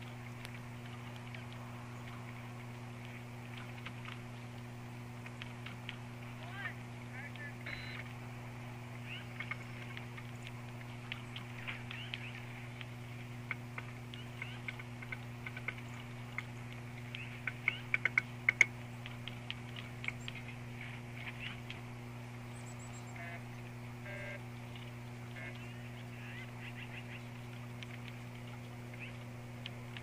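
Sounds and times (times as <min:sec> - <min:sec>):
birds chirping: 0:00.0 - 0:30.0
steady low hum: 0:00.0 - 0:30.0.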